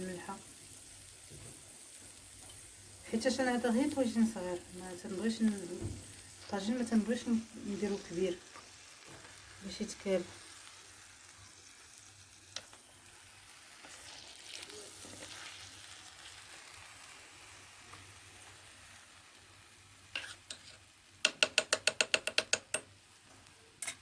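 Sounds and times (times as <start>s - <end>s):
meat sizzling: 0.0s - 21.6s.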